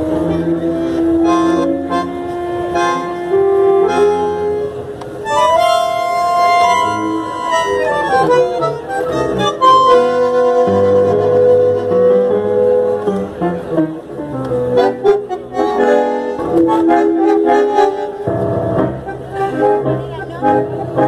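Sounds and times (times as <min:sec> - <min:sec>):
bandoneons playing chords: 0:00.0 - 0:21.0
double bass: 0:00.0 - 0:21.0.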